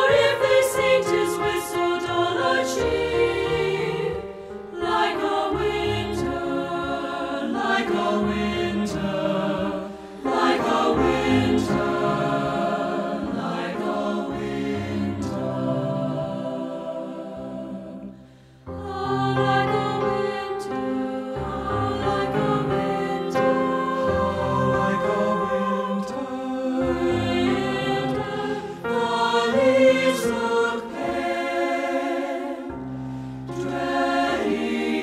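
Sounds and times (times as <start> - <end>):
choir singing: 0.0 - 35.0
piano accompaniment: 0.0 - 35.0.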